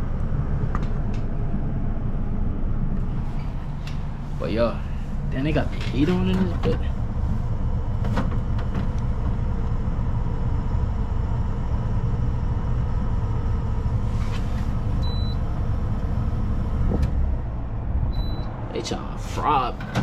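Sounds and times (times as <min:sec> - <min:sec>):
vehicle interior rumble: 0:00.0 - 0:20.0.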